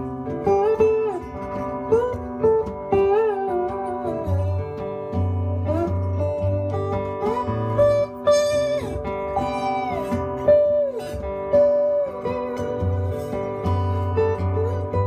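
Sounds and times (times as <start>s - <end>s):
acoustic guitar accompaniment: 0.0s - 15.0s
sliding acoustic guitar lead: 0.0s - 15.0s.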